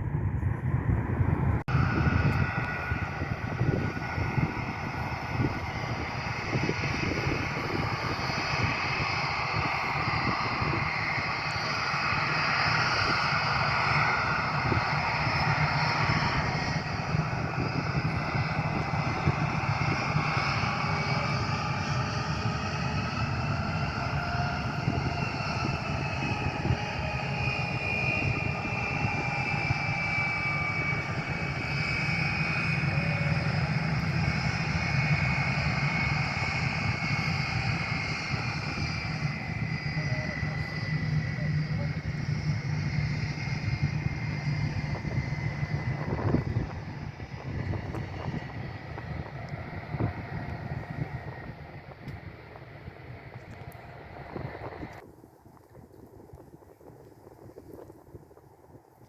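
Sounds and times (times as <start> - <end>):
high whine: 0.0 - 55.0
airplane engines running: 0.0 - 59.0.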